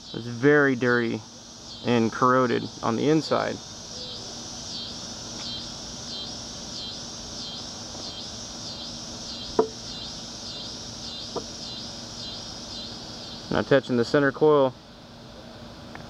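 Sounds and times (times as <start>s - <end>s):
insects chirping: 0.0s - 15.4s.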